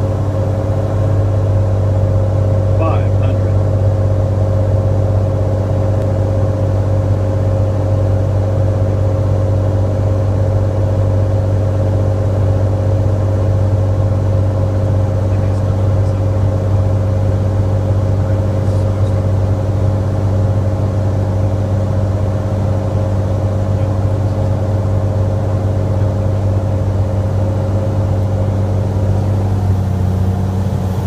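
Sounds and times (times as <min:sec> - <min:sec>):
propeller aircraft engine drone: 0:00.0 - 0:31.0.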